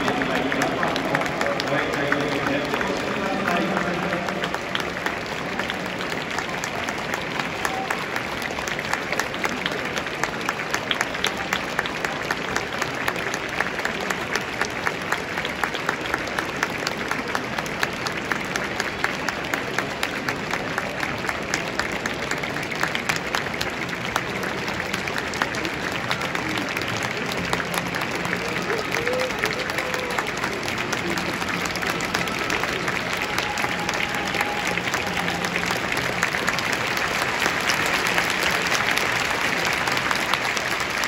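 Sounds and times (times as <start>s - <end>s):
crowd clapping: 0.0s - 41.0s
crowd noise: 0.0s - 41.0s.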